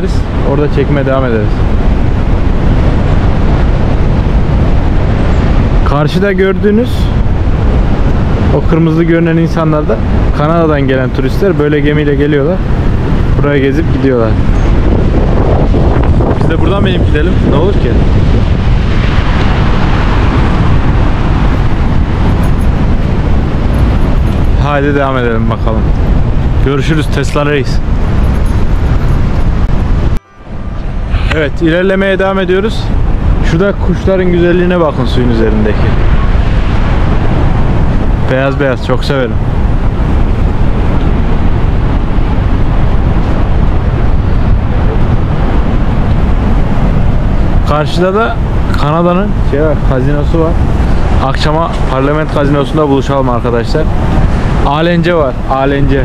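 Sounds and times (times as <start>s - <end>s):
wind buffeting microphone: 0.0s - 56.0s
waterfall roar: 7.2s - 56.0s.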